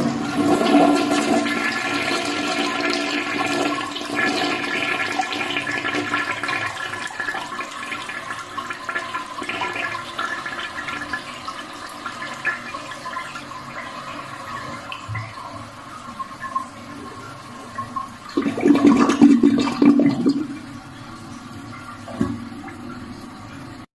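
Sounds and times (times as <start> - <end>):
toilet flushing: 0.0 - 23.9.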